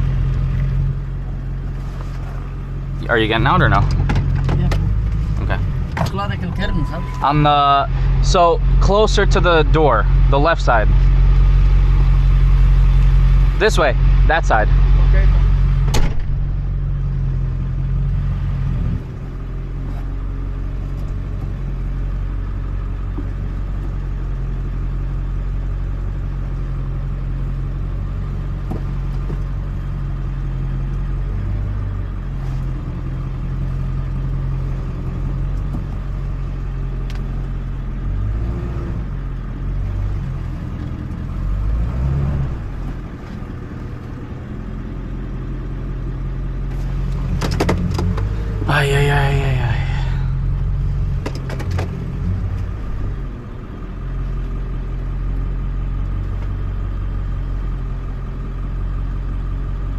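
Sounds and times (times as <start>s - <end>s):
vehicle engine low hum: 0.0s - 59.9s.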